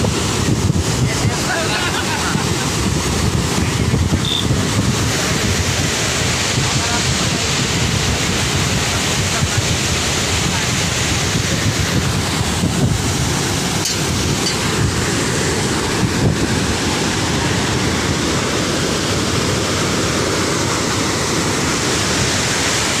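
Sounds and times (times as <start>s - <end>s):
water rushing through spillway: 0.0s - 23.0s.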